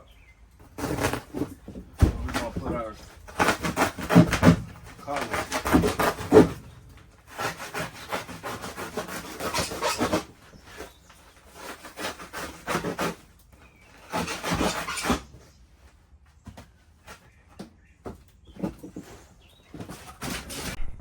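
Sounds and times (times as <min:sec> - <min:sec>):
utility knife sawing insulation: 0:00.6 - 0:15.6, 0:18.5 - 0:20.8.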